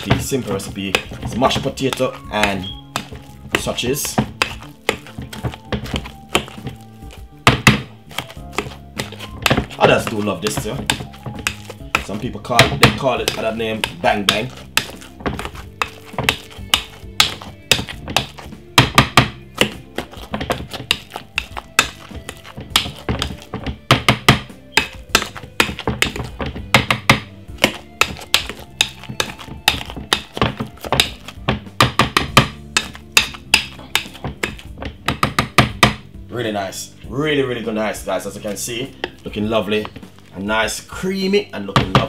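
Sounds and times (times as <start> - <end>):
potato masher knocking glass bowl: 0.0 - 36.0.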